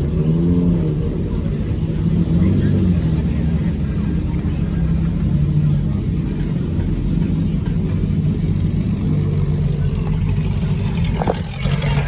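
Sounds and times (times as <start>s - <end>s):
racing car engine idling: 0.0s - 12.0s.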